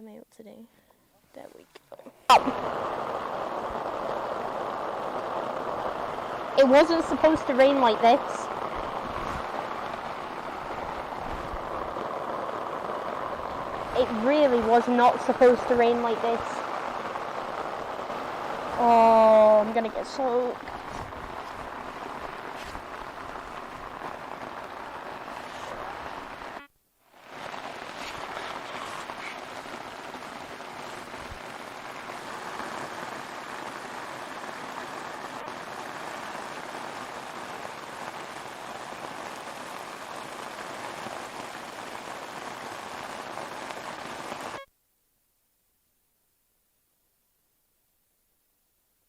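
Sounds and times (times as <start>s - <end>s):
torrential rain hissing: 0.6s - 44.7s.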